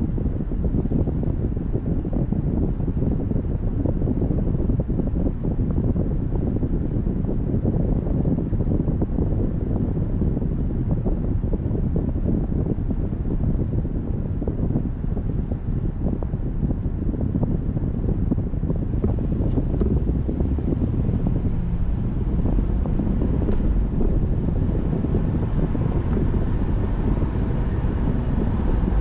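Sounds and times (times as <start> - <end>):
car road and wind rumble: 0.0 - 29.0.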